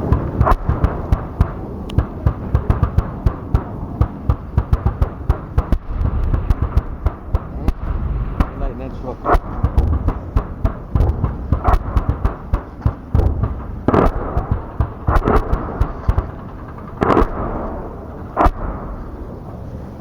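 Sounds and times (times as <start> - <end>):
gunshots: 0.0 - 19.3
steady low rumble: 0.0 - 20.0.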